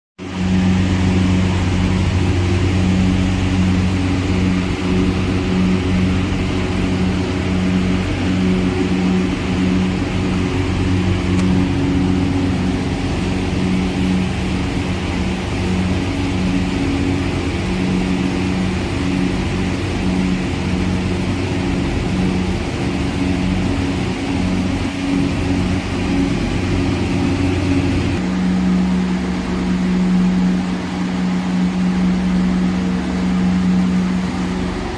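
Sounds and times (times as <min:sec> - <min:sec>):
machinery electric hum: 0:00.2 - 0:34.9.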